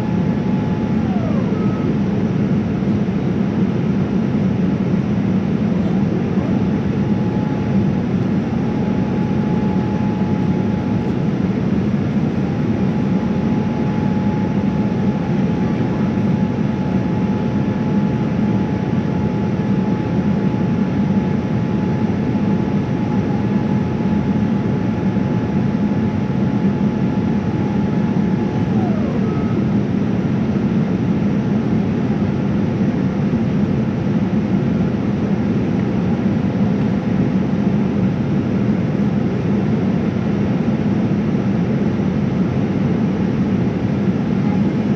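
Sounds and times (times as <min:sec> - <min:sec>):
aircraft cabin engine roar: 0:00.0 - 0:44.9.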